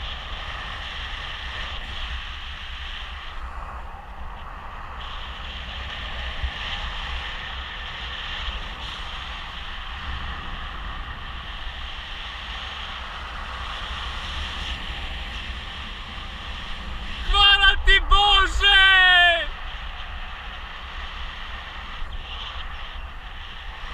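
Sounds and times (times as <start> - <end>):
wind rushing past microphone: 0.0 - 23.9.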